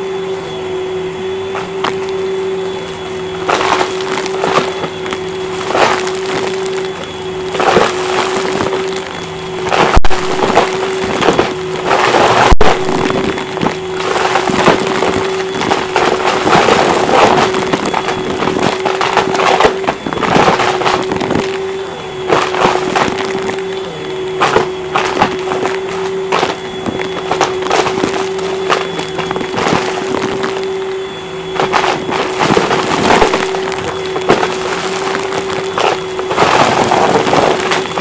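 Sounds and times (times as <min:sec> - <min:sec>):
vacuum cleaner humming: 0:00.0 - 0:38.0
debris rattling into vacuum: 0:01.5 - 0:38.0.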